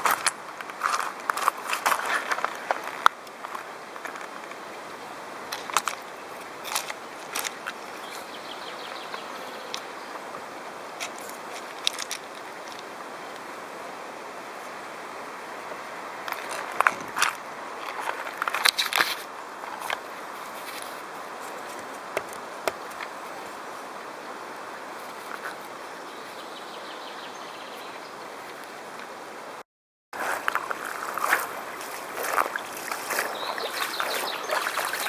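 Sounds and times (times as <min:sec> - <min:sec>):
creek water rushing: 0:00.0 - 0:29.6, 0:30.2 - 0:35.0.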